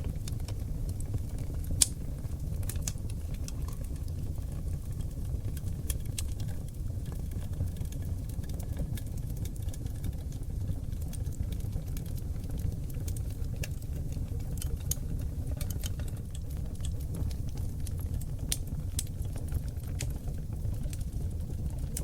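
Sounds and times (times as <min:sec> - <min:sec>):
fire crackles and pops: 0:00.0 - 0:22.0
low roar of flames: 0:00.0 - 0:22.0.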